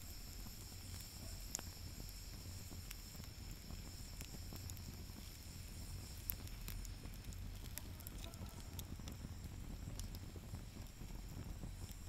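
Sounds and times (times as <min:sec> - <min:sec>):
wood fire crackling pops: 0:00.0 - 0:12.0.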